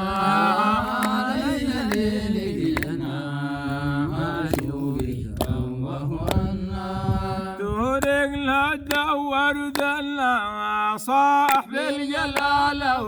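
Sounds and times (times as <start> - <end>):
voices singing a chant: 0.0 - 13.0.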